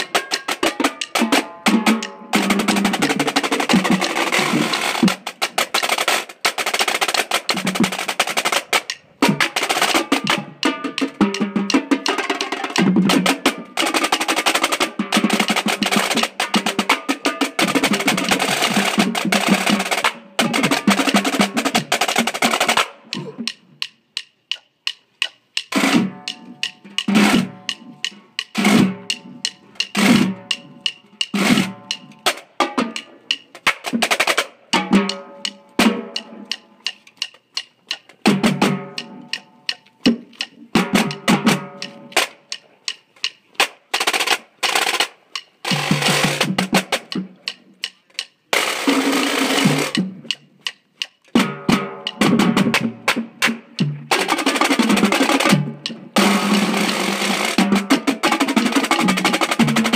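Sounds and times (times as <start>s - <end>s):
marching drumline: 0.0s - 23.6s, 25.6s - 36.6s, 38.2s - 42.3s, 43.6s - 47.6s, 48.5s - 50.4s, 51.4s - 59.9s
drum rolls: 0.0s - 23.9s, 25.2s - 37.3s, 38.2s - 42.4s, 43.6s - 50.4s, 51.3s - 59.9s.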